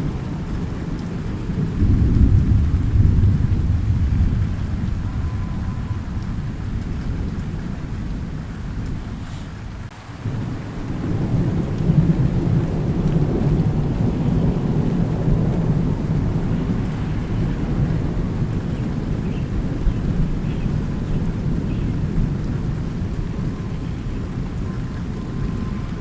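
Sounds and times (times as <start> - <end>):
steady rain falling: 0.0 - 26.0
thunder rolling: 0.0 - 26.0.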